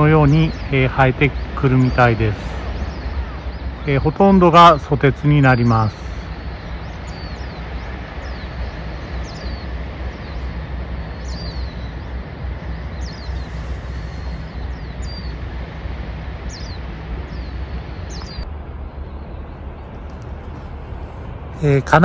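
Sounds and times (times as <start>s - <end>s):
small birds chirping: 0.0s - 22.0s
wind rumble on microphone: 0.0s - 22.0s.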